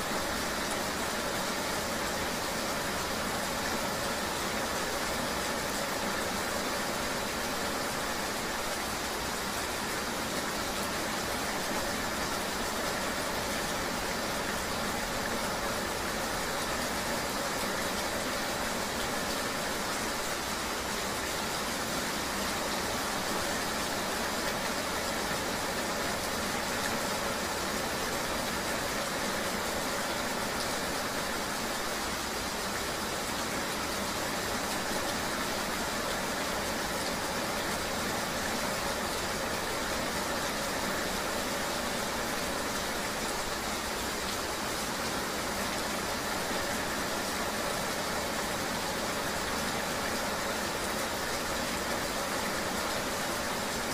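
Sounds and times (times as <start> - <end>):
rain and road noise: 0.0 - 53.9.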